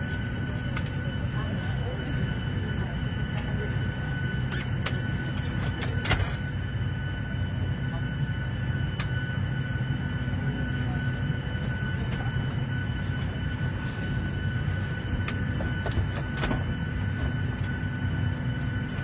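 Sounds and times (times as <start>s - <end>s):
airliner engine drone: 0.0s - 19.0s.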